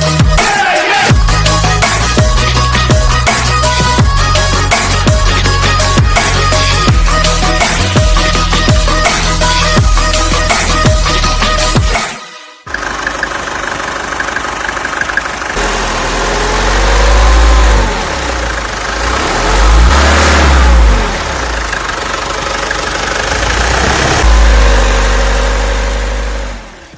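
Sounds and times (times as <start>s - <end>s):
diesel engine revving: 0.0s - 12.0s, 12.7s - 26.9s.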